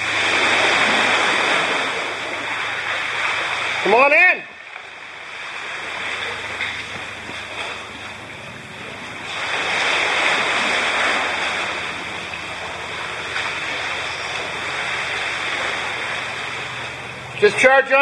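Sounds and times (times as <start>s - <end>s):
sea water lapping against rocks: 0.0s - 18.0s.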